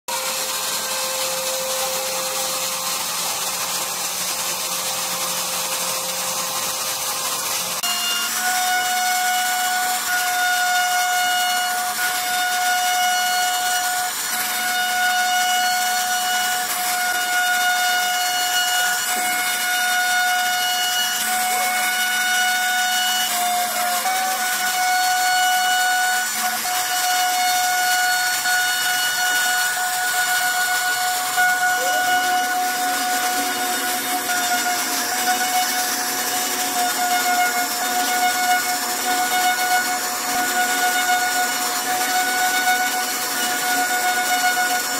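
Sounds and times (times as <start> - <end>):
hiss of bit cutting wood: 0.1 - 44.9
router spindle whining: 0.1 - 44.9.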